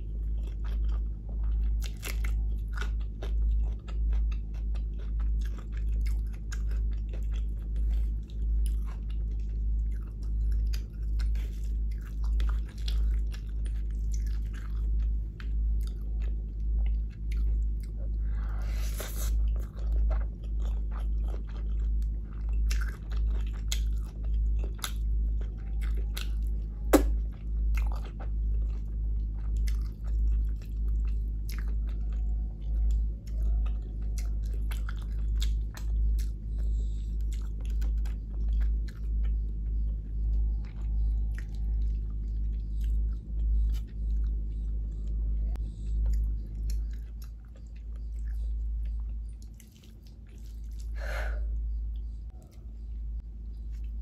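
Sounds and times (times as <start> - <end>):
close chewing with wet mouth clicks: 0.1 - 51.0.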